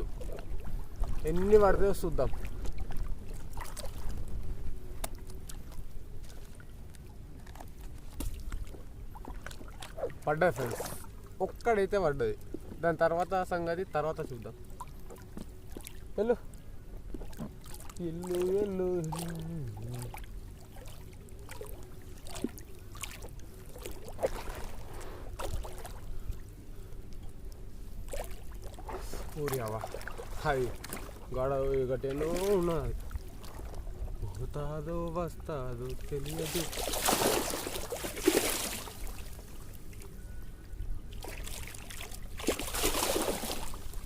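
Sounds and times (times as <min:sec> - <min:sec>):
light splashes: 0:00.0 - 0:13.5, 0:14.1 - 0:40.2, 0:41.1 - 0:44.0
water sloshing and trickling: 0:00.0 - 0:44.0.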